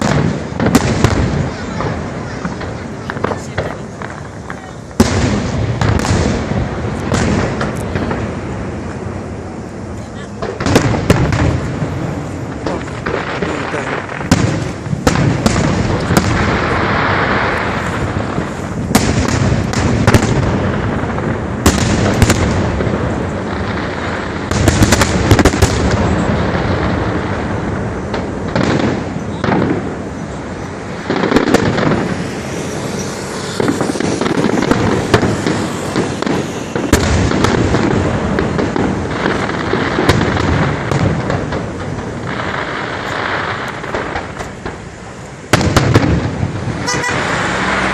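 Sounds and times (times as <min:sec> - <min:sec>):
fireworks crackling: 0:00.0 - 0:47.9
loud firework bangs: 0:00.0 - 0:47.9.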